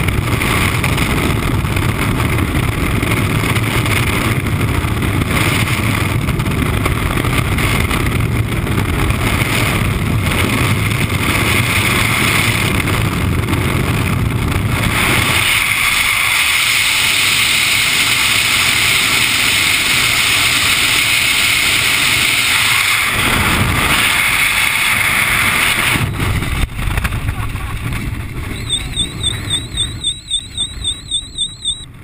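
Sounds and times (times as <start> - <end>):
freefall wind rushing over camera: 0.0 - 32.0.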